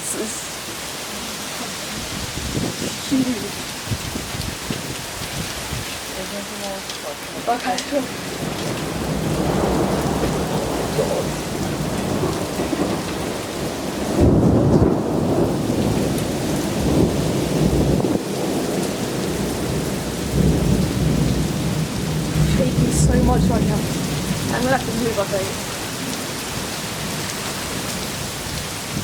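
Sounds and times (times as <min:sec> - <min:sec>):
thunder rumbling: 0:00.0 - 0:05.9, 0:07.4 - 0:29.0
heavy rain: 0:00.0 - 0:29.0.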